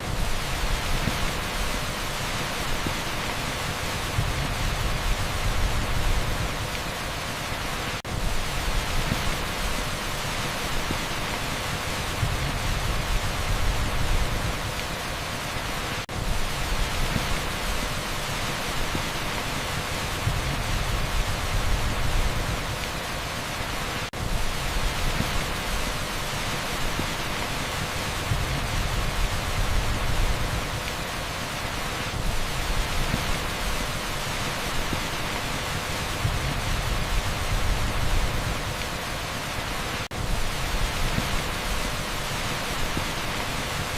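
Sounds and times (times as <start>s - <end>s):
heavy rain on asphalt: 0.0s - 43.9s.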